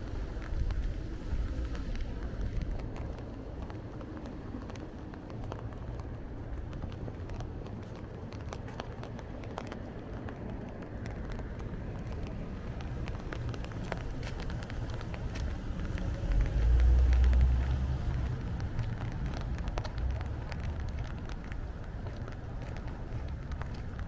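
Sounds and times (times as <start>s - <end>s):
light ticks: 0.0s - 24.0s
wind on microphone: 0.0s - 24.0s.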